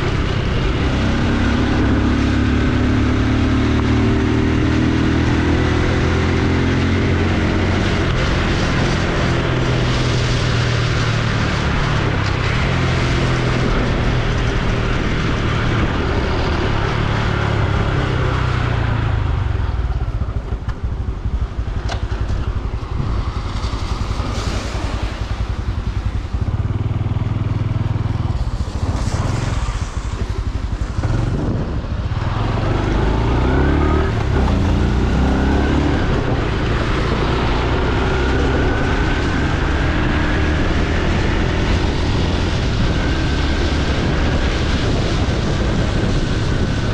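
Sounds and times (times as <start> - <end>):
motorcycle engine running: 0.0 - 46.9
road noise: 0.0 - 46.9
wind noise: 0.0 - 46.9.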